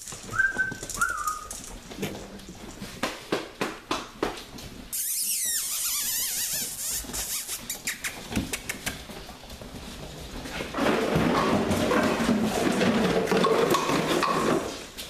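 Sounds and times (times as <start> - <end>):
puppies' claws clicking on tiles: 0.0 - 15.0.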